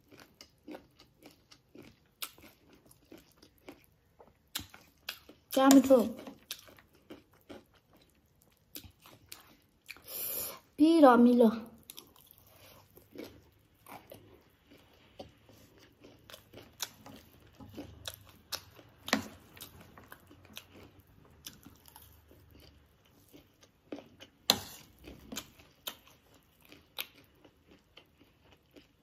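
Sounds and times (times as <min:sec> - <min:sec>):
chewing crunchy snack: 0:00.0 - 0:10.1, 0:11.8 - 0:29.0.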